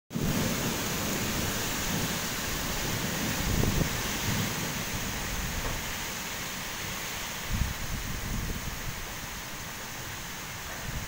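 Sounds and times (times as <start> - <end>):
heavy rain in strong wind: 0.1 - 11.0.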